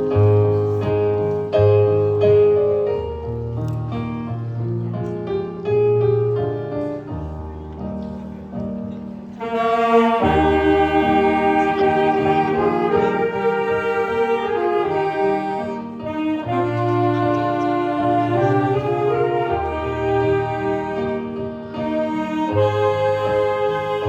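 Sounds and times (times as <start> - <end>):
piano playing slowly: 0.0 - 24.0
wind band with saxophones: 0.0 - 24.0.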